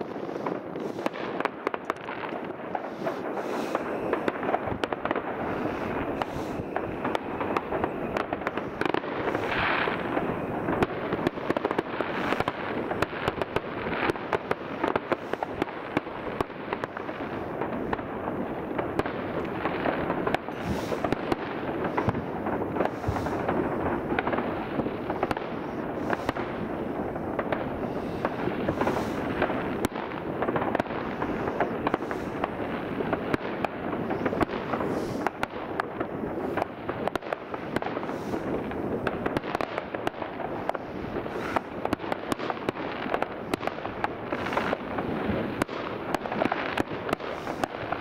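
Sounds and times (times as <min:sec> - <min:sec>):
firecrackers crackling: 0:00.0 - 0:48.0
sharp firework bangs: 0:00.0 - 0:48.0.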